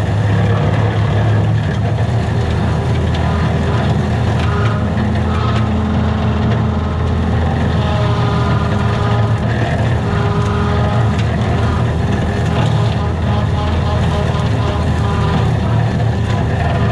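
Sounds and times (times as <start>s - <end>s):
brush crackling against machine: 0.0s - 16.9s
diesel engine running: 0.0s - 16.9s.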